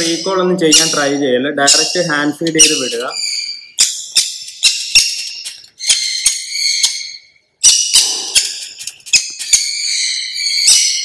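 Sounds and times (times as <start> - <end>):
parrot squawking: 0.0 - 5.2, 5.8 - 11.0.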